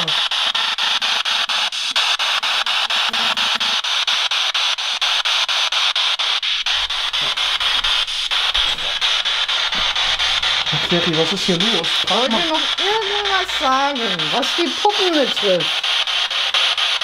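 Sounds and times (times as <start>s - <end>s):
chopped radio static hiss: 0.0s - 17.0s
snatches of radio broadcast: 0.0s - 17.0s.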